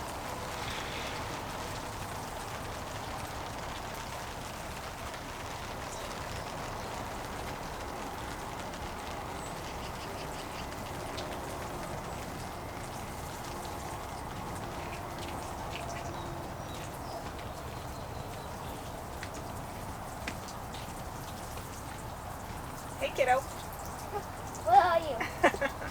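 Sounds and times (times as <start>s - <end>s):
steady rain hiss: 0.0s - 25.9s.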